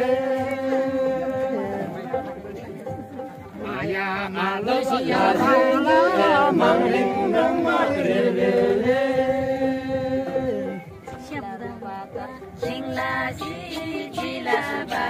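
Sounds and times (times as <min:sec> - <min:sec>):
group singing unaccompanied chant: 0:00.0 - 0:15.0.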